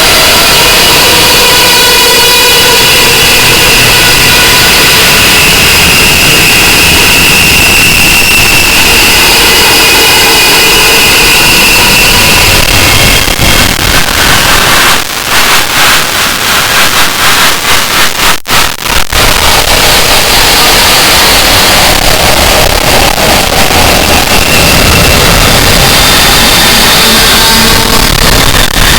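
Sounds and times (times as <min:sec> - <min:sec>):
shrill steady ringing tone: 0:00.0 - 0:15.1, 0:19.2 - 0:28.9
distorted static noise music: 0:00.0 - 0:28.9.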